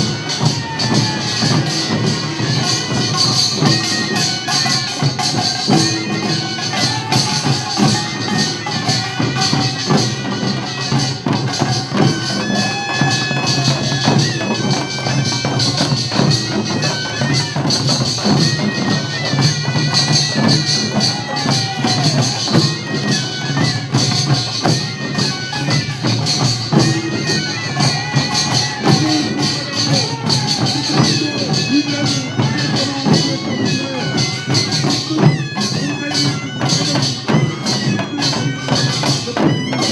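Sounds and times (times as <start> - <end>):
clatter of small gongs and drums: 0.0 - 39.9
reedy nasal shawm melody: 0.0 - 39.9.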